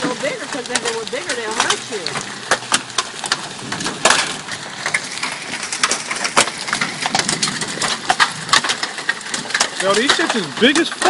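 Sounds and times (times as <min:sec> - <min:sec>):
hailstones striking cars and ground: 0:00.0 - 0:11.0.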